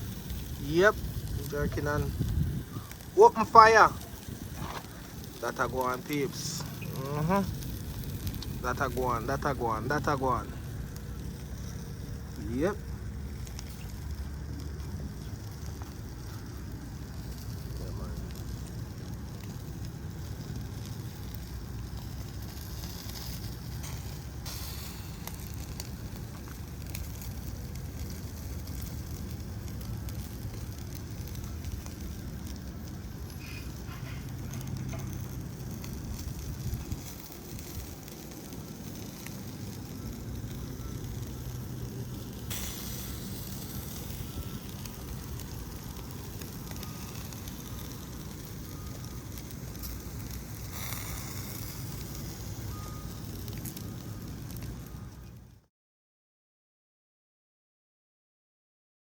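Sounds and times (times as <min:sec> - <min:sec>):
fire popping: 0:00.0 - 0:55.6
low rumble: 0:00.0 - 0:55.6
wood fire crackling: 0:00.0 - 0:55.6.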